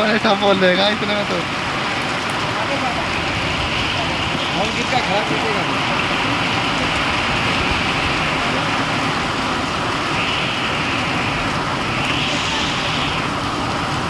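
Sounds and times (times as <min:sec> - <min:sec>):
heavy rain in wind: 0:00.0 - 0:14.0.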